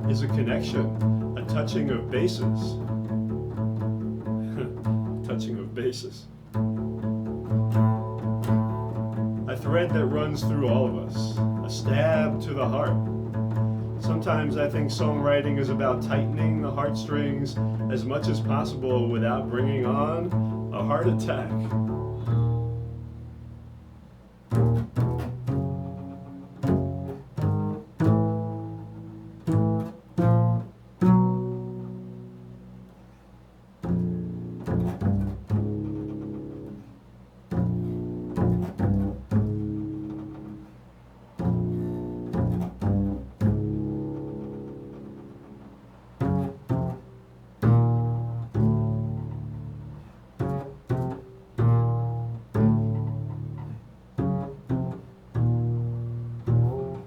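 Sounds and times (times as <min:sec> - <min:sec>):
plucked bass notes: 0:00.0 - 0:33.2, 0:33.8 - 0:57.0.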